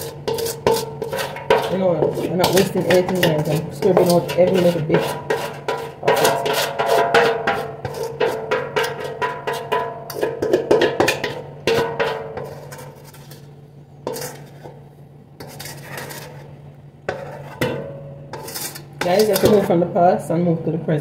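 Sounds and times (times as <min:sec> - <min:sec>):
spatula scraping metal bowl: 0:00.0 - 0:14.8, 0:15.4 - 0:19.8.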